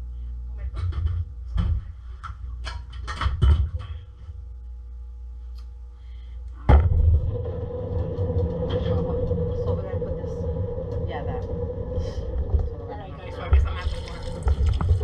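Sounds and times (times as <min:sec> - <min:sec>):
low rumble with hum: 0:00.0 - 0:15.0.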